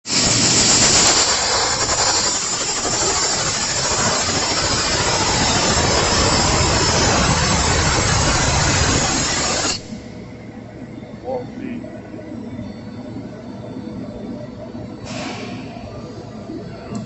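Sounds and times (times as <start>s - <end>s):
jet engine running: 0.1s - 17.0s.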